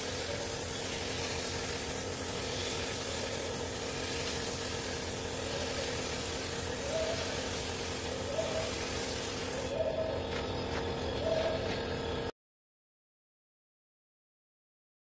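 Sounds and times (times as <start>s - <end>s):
paint spray gun hissing: 0.0s - 12.3s.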